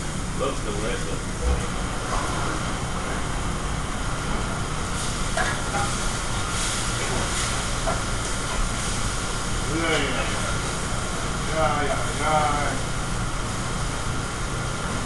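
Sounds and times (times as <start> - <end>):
kitchen exhaust hood rushing: 0.0 - 15.0.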